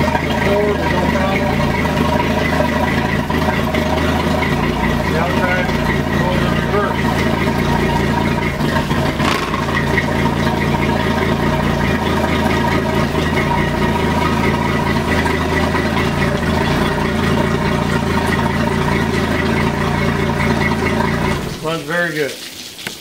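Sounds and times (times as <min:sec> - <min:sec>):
boat engine idling: 0:00.0 - 0:22.0.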